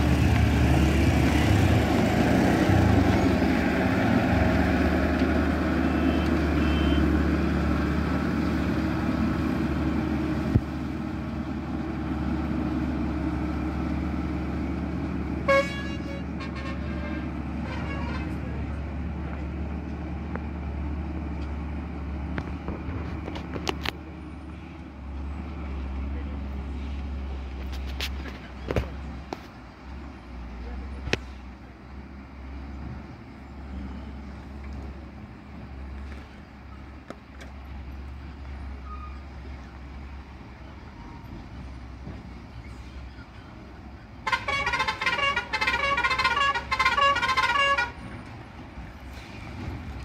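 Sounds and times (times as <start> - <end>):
truck engine droning: 0.0 - 50.0.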